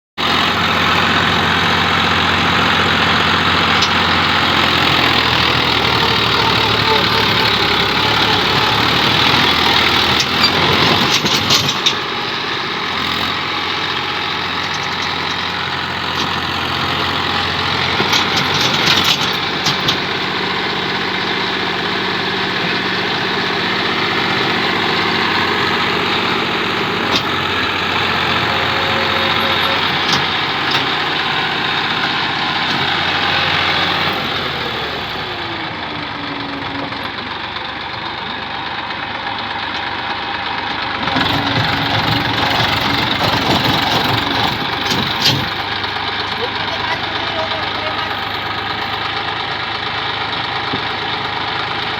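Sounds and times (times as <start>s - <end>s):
tractor diesel engine under load: 0.1s - 51.9s.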